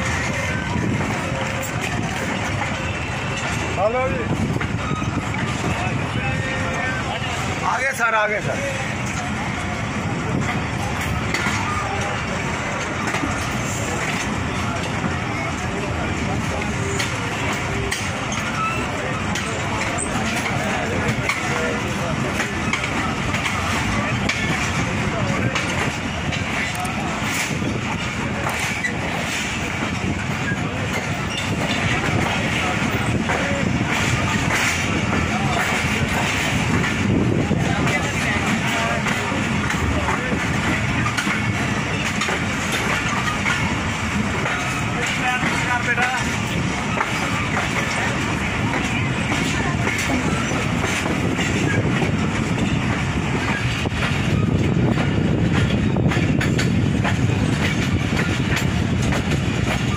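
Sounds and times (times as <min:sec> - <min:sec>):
train wheels rumbling on rails: 0:00.0 - 0:59.9
voices on platform: 0:00.0 - 0:59.9.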